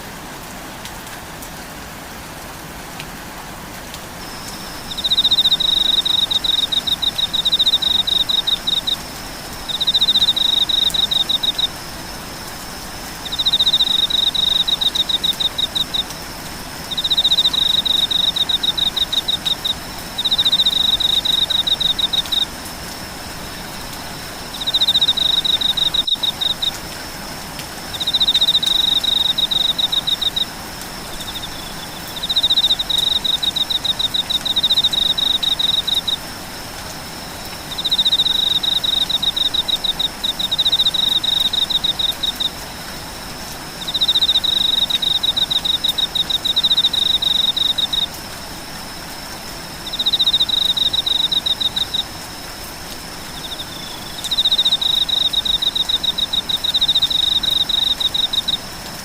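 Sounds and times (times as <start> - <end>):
rain hiss: 0.0 - 59.0.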